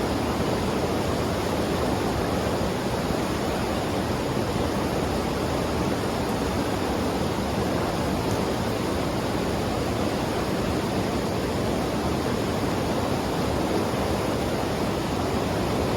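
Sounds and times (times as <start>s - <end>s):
river rushing: 0.0s - 15.9s.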